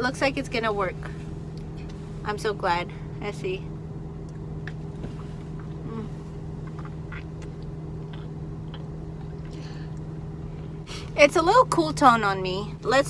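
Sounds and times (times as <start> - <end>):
idling car hum: 0.0 - 13.0.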